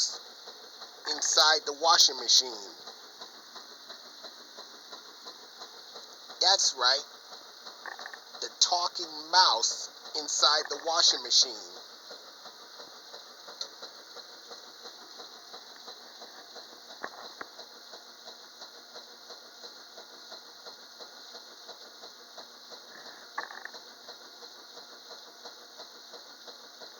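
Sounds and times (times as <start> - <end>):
washing machine running: 0.0 - 26.9.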